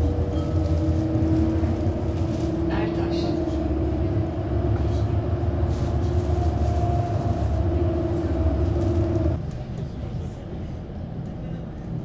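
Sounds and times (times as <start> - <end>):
tram rumble: 0.0 - 12.0.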